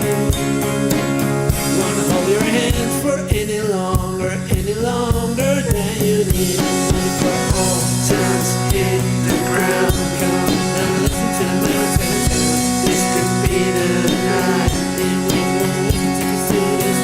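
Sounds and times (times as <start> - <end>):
drum kit beat: 0.0 - 17.0
guitars: 0.0 - 17.0.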